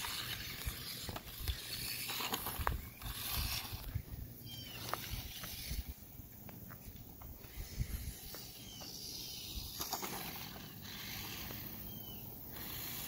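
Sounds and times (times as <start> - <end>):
toy truck motor whirring: 0.0 - 6.1, 7.4 - 13.0.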